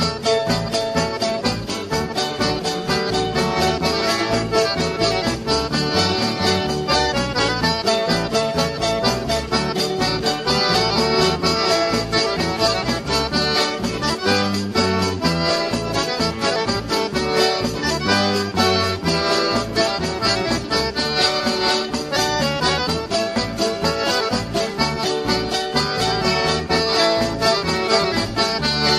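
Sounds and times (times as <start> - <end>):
accordion dance music: 0.0 - 28.9.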